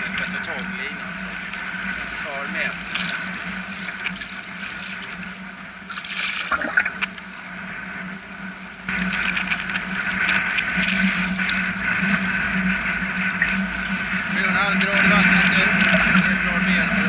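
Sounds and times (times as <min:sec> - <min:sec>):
sea water lapping and splashing: 0:00.0 - 0:17.0.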